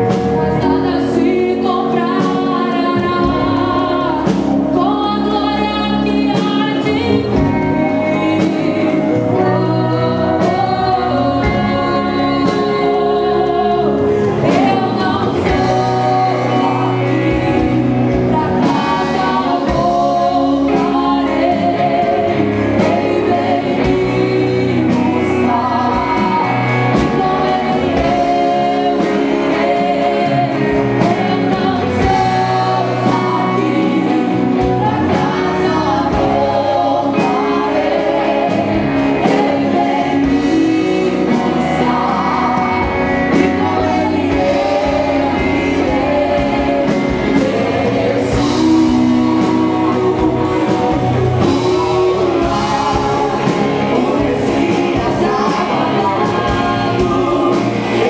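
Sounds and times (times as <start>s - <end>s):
band with guitar and drums: 0.0s - 58.0s
person singing: 0.0s - 58.0s.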